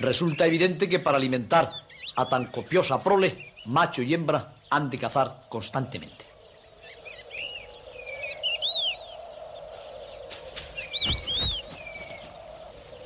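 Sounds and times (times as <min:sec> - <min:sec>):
bird chicks chirping: 0:00.0 - 0:13.0.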